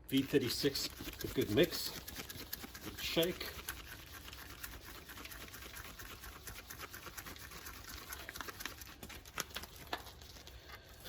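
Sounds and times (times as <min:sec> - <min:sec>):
plastic bottle shaken sloshing: 0:00.1 - 0:10.6.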